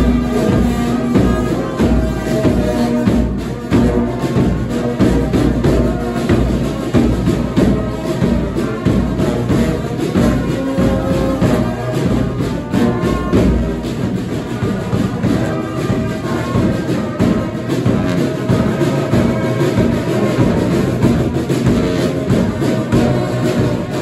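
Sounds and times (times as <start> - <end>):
bass drum: 0.0 - 24.0
brass band playing: 0.0 - 24.0
snare drums beating: 0.0 - 24.0.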